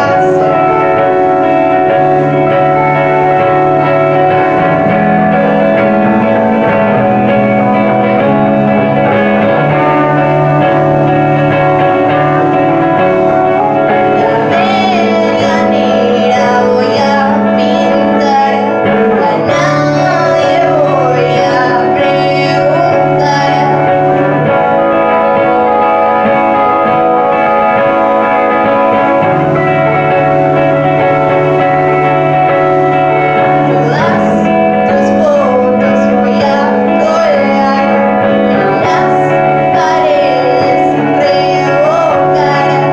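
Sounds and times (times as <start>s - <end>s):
woman singing: 0.0s - 5.0s, 5.7s - 42.9s
electric guitar chords: 0.0s - 42.9s
rock band playing: 0.0s - 42.9s.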